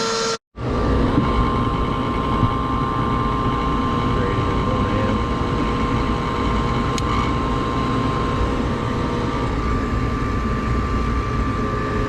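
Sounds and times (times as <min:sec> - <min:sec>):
gas furnace humming: 0:00.0 - 0:12.0.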